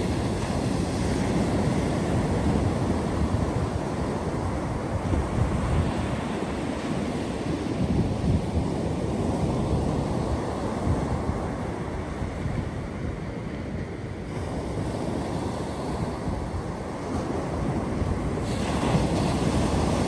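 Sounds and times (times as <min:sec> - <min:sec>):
waves washing up a beach: 0:00.0 - 0:20.0.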